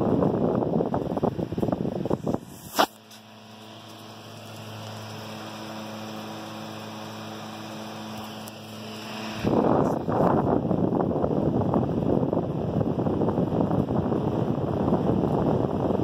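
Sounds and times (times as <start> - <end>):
electric fan motor humming: 0.0 - 16.0
fan air buffeting microphone: 0.0 - 16.0.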